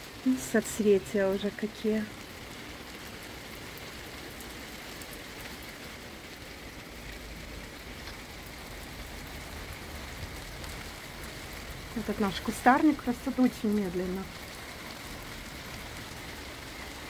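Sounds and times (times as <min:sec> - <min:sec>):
rain on leaves and paving: 0:00.0 - 0:17.0.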